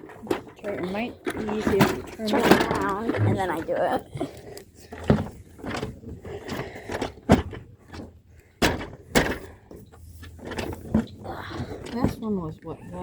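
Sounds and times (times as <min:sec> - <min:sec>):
hard plastic parts knocking: 0:00.0 - 0:13.0
plastic rattling: 0:00.0 - 0:13.0.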